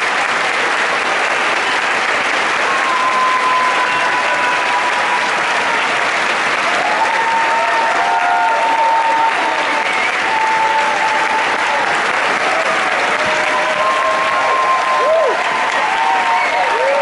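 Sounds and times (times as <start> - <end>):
audience applauding: 0.0 - 17.0
crowd cheering: 0.0 - 17.0.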